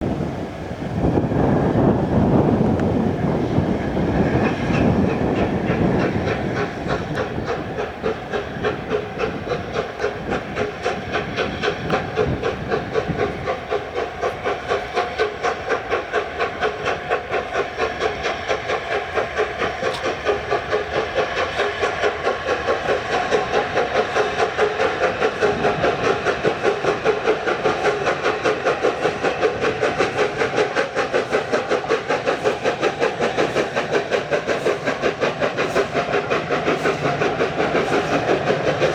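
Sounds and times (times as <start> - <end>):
steam locomotive chuffing: 0.0 - 38.9
steam hissing: 0.1 - 38.9.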